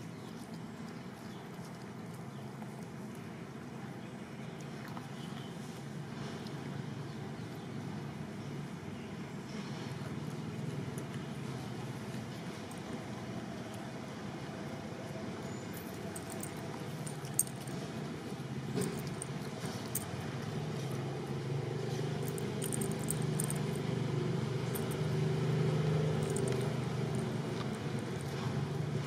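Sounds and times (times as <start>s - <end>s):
low engine-like hum: 0.0s - 29.0s.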